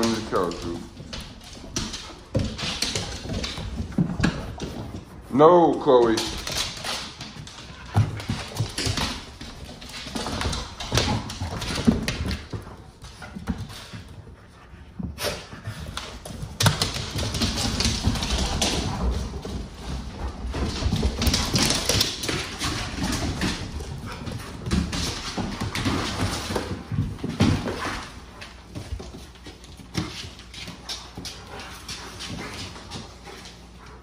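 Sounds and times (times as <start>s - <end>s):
dog claws clicking on hard floor: 0.0s - 14.1s, 15.0s - 33.9s
dogs scuffling: 0.0s - 34.0s.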